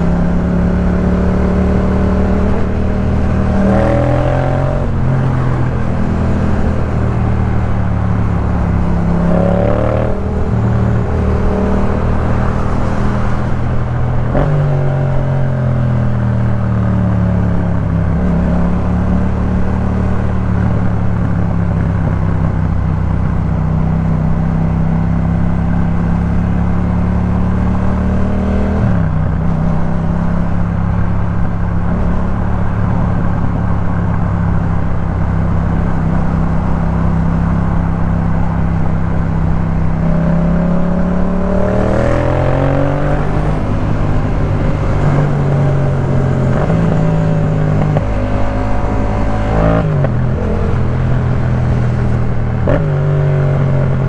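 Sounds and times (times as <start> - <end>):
motorcycle engine revving: 0.0 - 15.5, 23.7 - 54.0.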